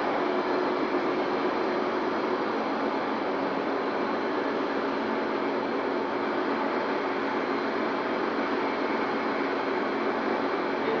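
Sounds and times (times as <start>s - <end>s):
milling machine running: 0.0s - 11.0s.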